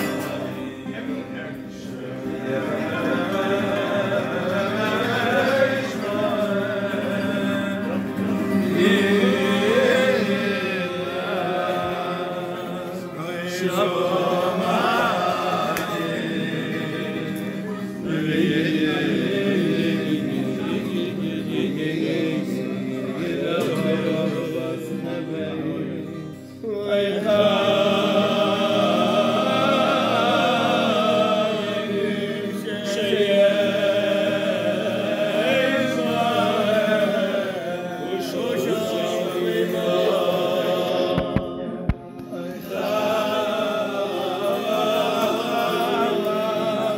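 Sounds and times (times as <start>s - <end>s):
man singing: 0.0s - 46.9s.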